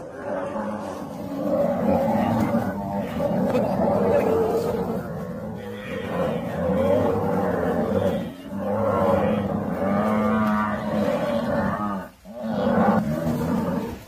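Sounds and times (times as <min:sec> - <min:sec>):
large animals roaring: 0:00.0 - 0:14.0.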